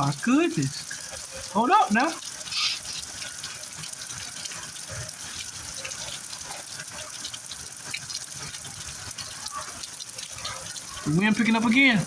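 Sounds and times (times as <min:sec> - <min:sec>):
heavy rain pouring: 0:00.0 - 0:12.0
raindrops ticking: 0:00.0 - 0:12.0.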